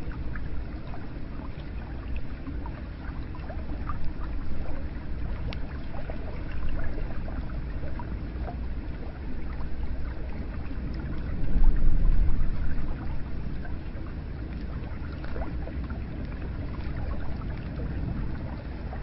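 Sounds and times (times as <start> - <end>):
low rumble: 0.0 - 19.0
water flowing and splashing: 0.0 - 19.0.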